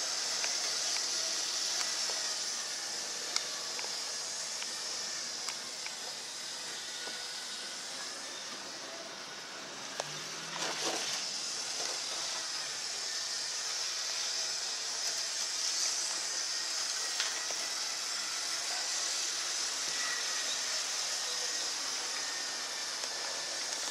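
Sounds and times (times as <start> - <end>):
model train hissing on track: 0.0 - 23.9.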